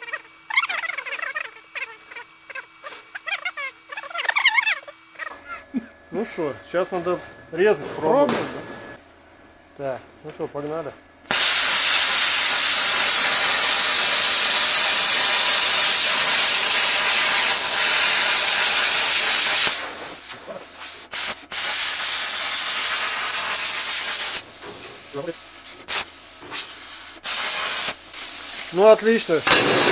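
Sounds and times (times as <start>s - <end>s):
plasma cutter torch hissing: 0.0s - 5.3s, 11.3s - 29.9s.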